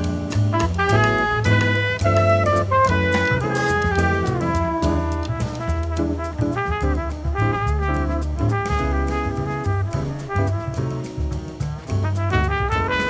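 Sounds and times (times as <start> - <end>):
trumpet and saxophone melody: 0.0 - 11.4, 12.1 - 13.0
drum kit: 0.0 - 13.0
electric bass: 0.0 - 13.0.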